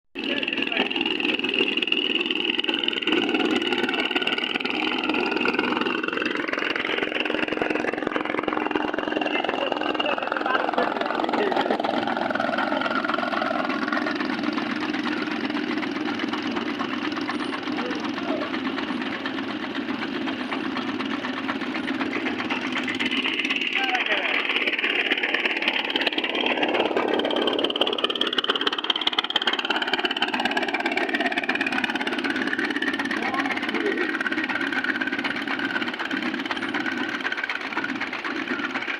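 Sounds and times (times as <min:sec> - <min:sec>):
boat motor running: 0:00.2 - 0:38.9.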